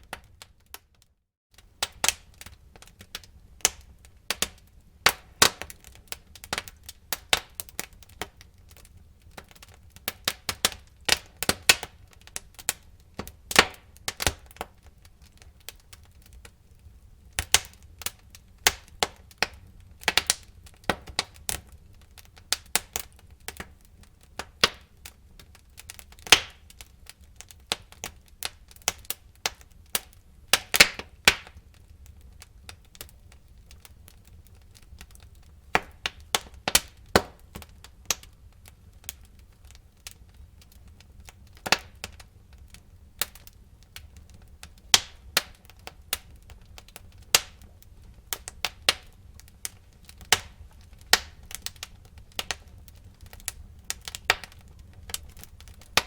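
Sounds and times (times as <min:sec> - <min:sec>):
wood fire crackling and popping: 0:00.0 - 0:56.0
low rumble of flames: 0:01.6 - 0:56.0.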